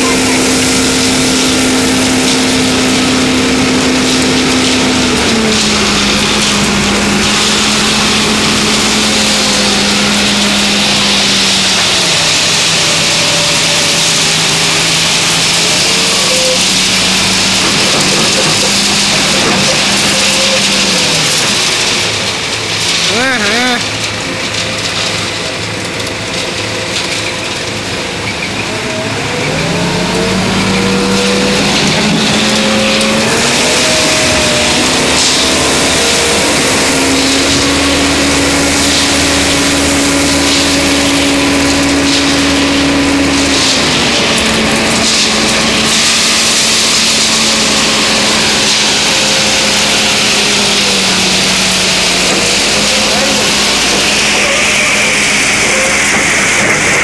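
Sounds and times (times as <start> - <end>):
diesel engine revving: 0.0 - 57.0
loader bucket digging gravel: 0.0 - 57.0.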